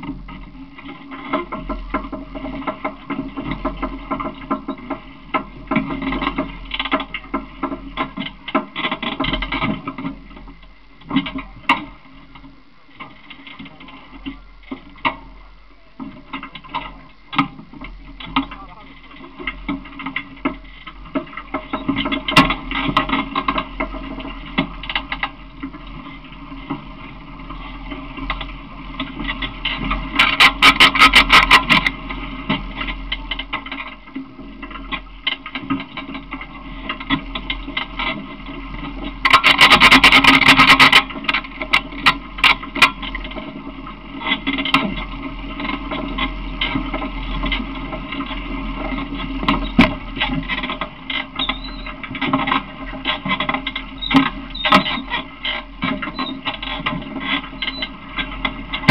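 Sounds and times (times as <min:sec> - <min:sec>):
small vehicle rattling on pavement: 0:00.0 - 0:58.9.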